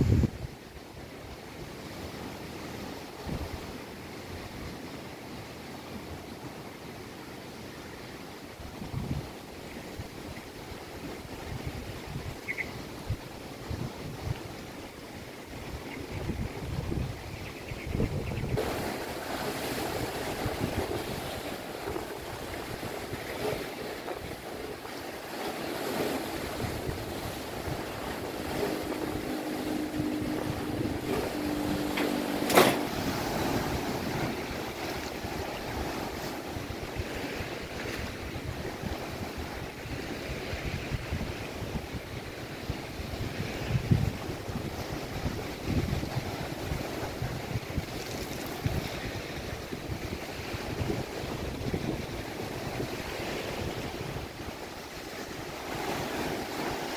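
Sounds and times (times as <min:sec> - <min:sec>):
wind buffeting microphone: 0:00.0 - 0:00.6, 0:08.6 - 0:14.9, 0:15.5 - 0:56.9
waves breaking: 0:00.0 - 0:56.9.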